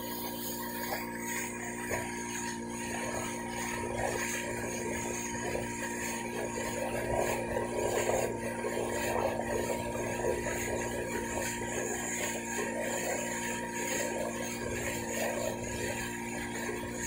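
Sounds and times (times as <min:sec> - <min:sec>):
boat engine running: 0:00.0 - 0:17.0
water splashing along hull: 0:00.0 - 0:17.0.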